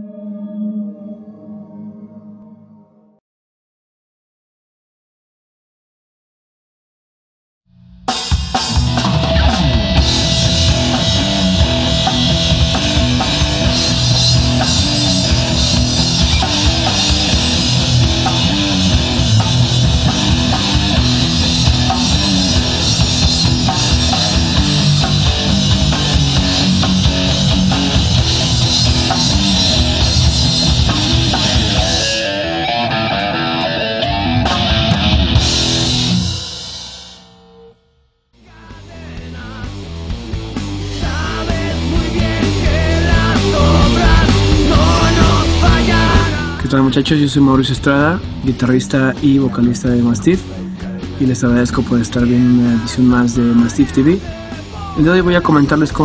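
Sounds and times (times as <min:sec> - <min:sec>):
rock band playing loudly: 0:08.1 - 0:37.7, 0:38.4 - 0:56.0.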